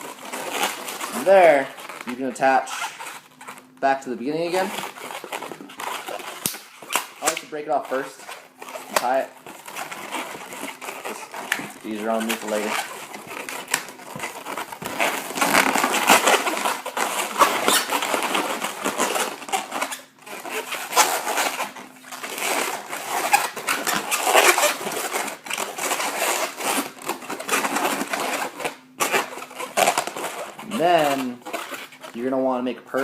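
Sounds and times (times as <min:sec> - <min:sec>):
balloons squeaking and rubbing: 0:00.0 - 0:33.0.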